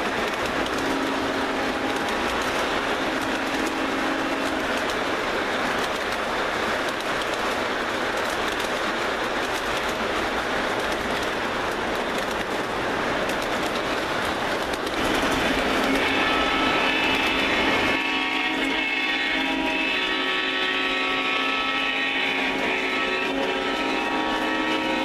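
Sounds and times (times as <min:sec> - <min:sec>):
model train wheels rumbling: 0:00.0 - 0:25.0
rail joint clicking: 0:00.0 - 0:25.0.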